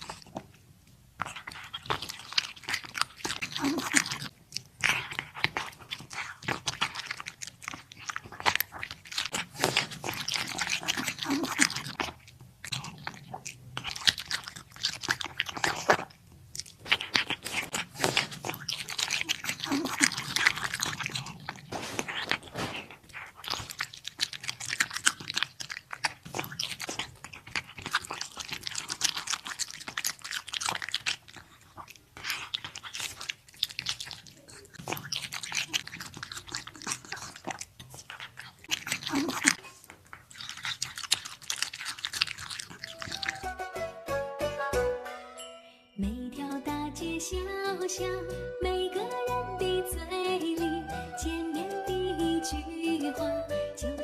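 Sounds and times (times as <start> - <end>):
cat chewing and crunching: 0.0 - 43.6, 46.1 - 53.2.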